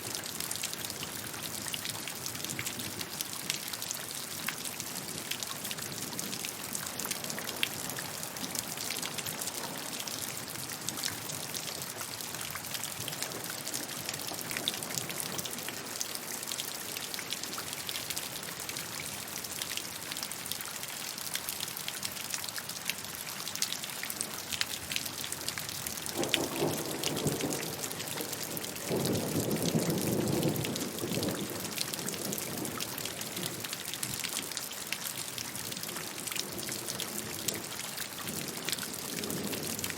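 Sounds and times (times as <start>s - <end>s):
raindrops ticking close by: 0.0s - 39.9s
steady rainfall: 0.0s - 39.9s.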